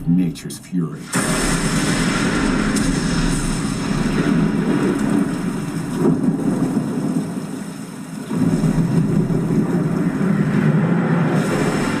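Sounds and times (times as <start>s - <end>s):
storm rumble: 1.1s - 12.0s.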